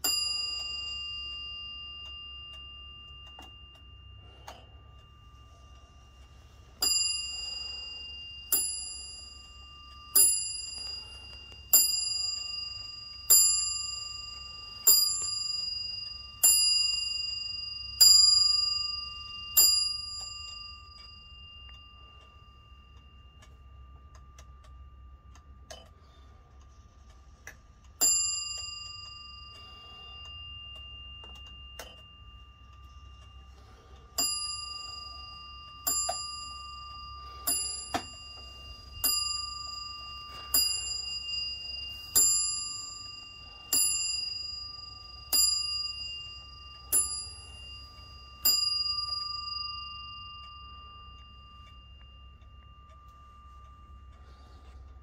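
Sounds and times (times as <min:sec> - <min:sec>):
clock bell strikes: 0:00.0 - 0:55.0.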